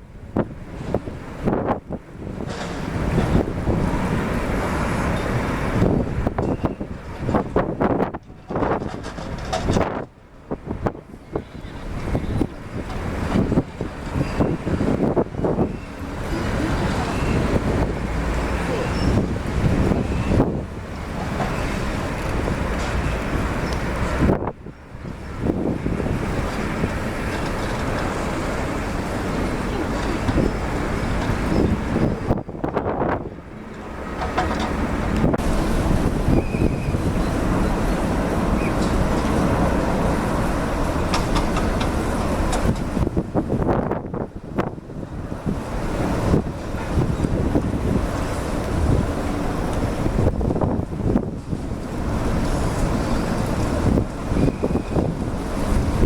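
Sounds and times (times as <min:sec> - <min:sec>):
gusty wind buffeting microphone: 0:00.0 - 0:56.0.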